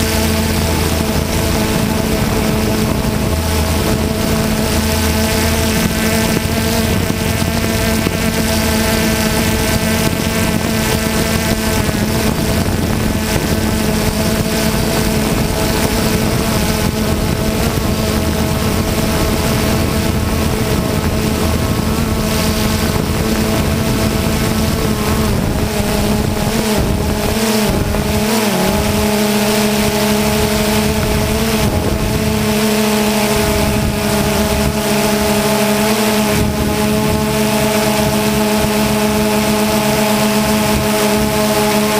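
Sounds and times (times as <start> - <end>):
aircraft engine running: 0.0 - 41.9
wind noise on microphone: 0.0 - 41.9.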